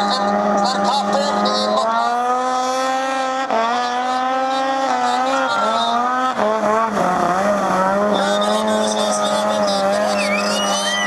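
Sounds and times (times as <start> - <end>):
snowmobile engine at high revs: 0.0 - 11.0.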